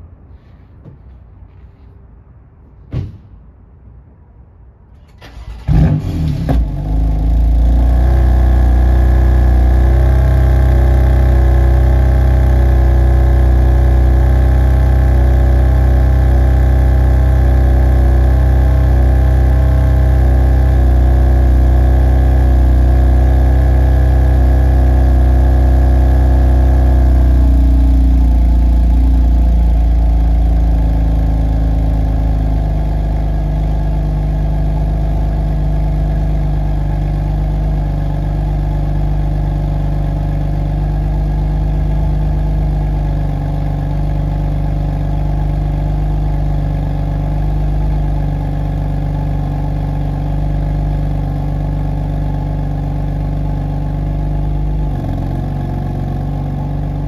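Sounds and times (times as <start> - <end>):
car engine idling: 5.2 - 57.0.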